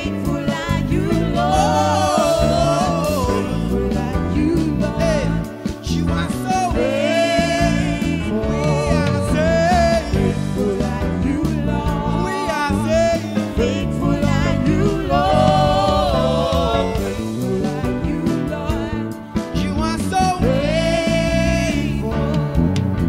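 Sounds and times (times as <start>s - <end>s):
band accompaniment: 0.0s - 23.0s
man singing gospel song: 0.0s - 23.0s.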